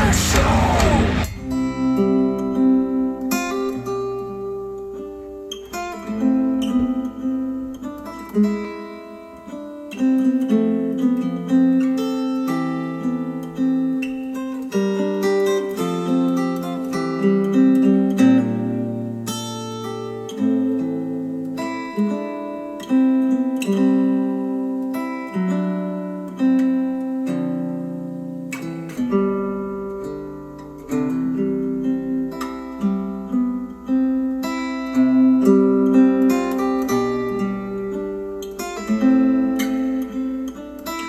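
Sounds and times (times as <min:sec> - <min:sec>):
acoustic guitar music: 0:00.0 - 0:41.0.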